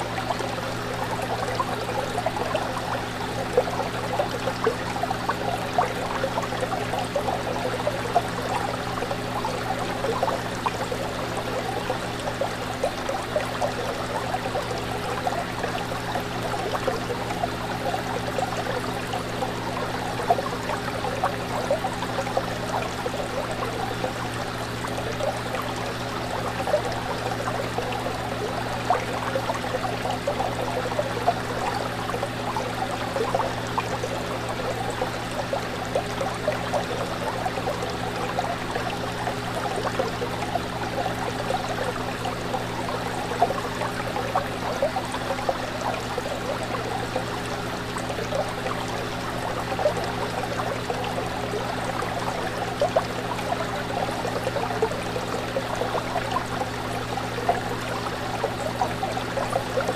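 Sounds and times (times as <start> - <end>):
fish tank water bubbling: 0.0 - 59.9.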